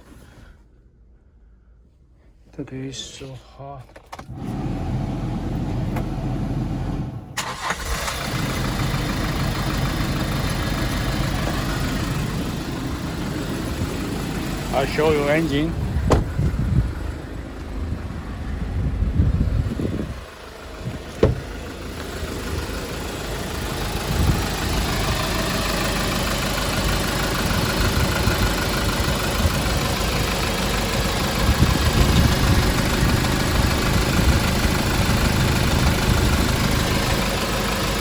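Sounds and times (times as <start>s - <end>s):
diesel truck engine idling: 4.3s - 38.0s.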